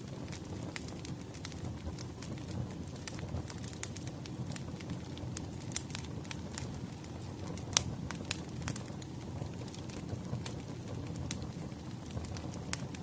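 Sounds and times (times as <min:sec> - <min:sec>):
low rumble of burning logs: 0:00.0 - 0:13.0
wood fire crackling: 0:00.0 - 0:13.0.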